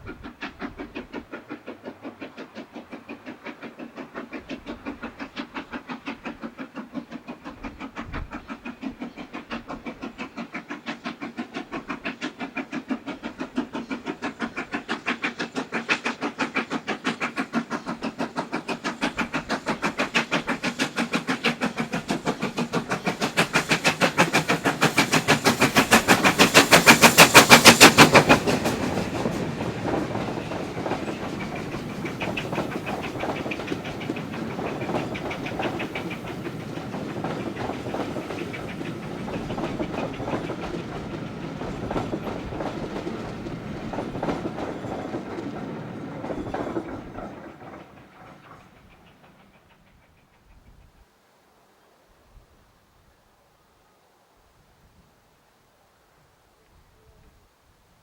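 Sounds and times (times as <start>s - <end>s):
steam locomotive exhaust beating: 0.0s - 51.0s
train rumbling past: 0.0s - 51.1s.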